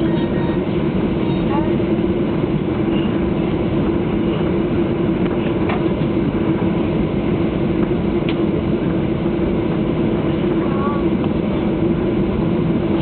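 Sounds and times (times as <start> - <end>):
jet cabin rumble and hum: 0.0 - 13.0.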